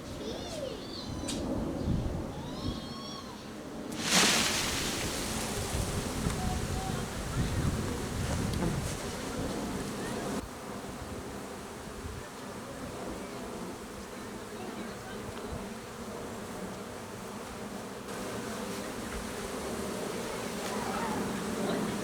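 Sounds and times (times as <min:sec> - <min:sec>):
bee swarm buzzing: 0:03.9 - 0:22.0.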